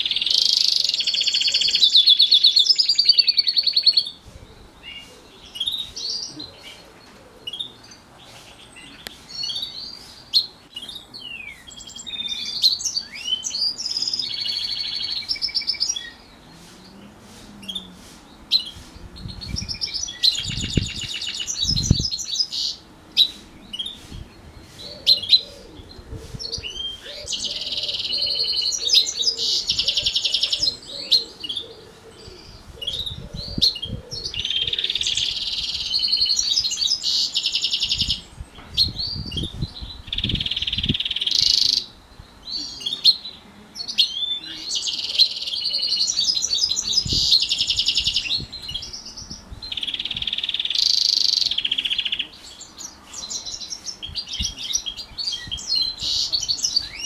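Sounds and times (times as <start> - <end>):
bird singing trills: 0.0 - 4.2, 4.8 - 17.9, 18.5 - 57.0
bird chirps: 4.8 - 17.9, 18.5 - 57.0.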